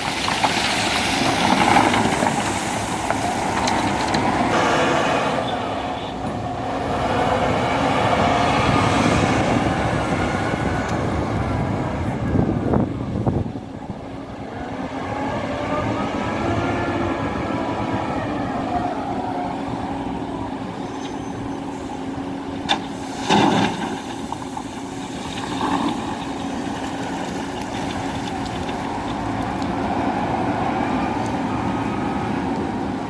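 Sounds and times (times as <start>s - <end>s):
diesel truck engine rumbling: 0.0s - 33.0s.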